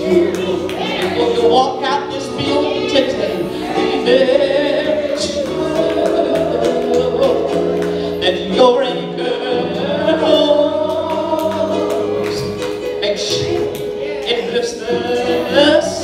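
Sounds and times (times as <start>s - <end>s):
held accompaniment chords: 0.0s - 16.0s
woman singing gospel: 0.0s - 16.0s.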